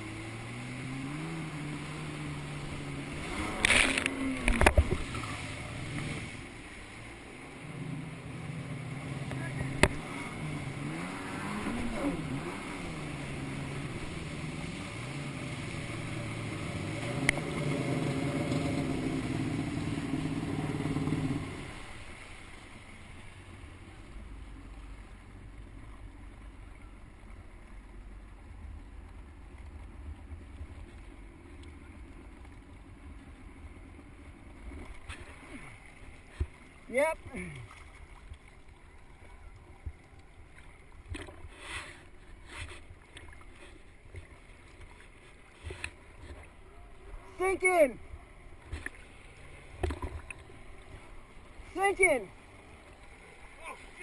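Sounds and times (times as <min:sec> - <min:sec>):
jet ski engine: 0:00.0 - 0:54.0.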